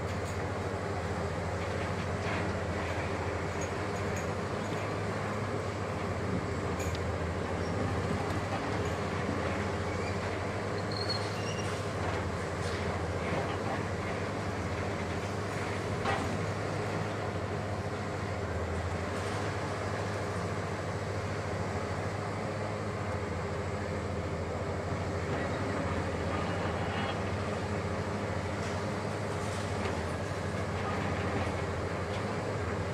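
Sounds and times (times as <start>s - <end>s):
excavator diesel engine droning: 0.1s - 32.9s.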